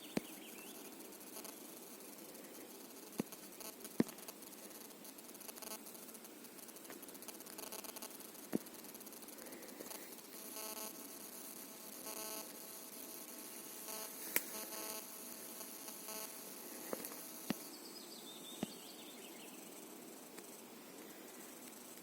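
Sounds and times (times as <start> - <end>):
faint buzzing: 0.0 - 22.0.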